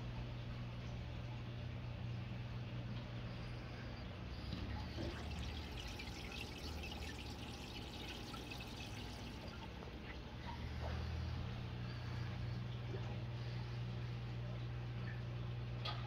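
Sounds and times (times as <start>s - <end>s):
aquarium water trickling: 0.0s - 16.0s
steady low hum: 0.0s - 16.0s.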